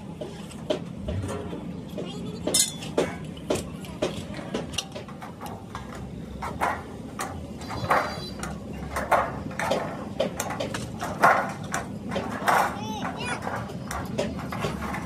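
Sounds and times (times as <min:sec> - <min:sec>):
knocks and clanks on metal: 0:00.1 - 0:15.0.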